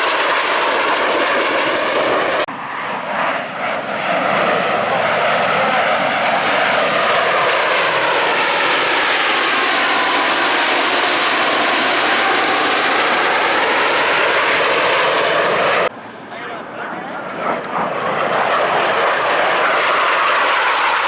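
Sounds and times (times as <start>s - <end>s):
jets flying past: 0.0s - 21.0s.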